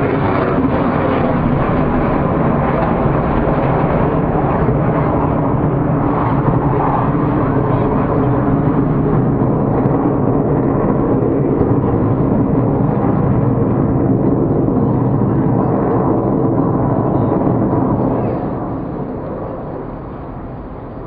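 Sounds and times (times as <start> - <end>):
aircraft engines deep rumble: 0.0 - 21.0.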